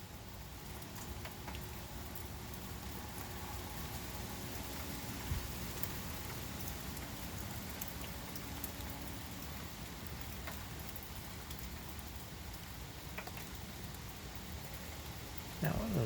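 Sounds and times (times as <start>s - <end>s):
heavy rain falling: 0.0s - 16.0s
sharp drip ticks: 0.0s - 16.0s.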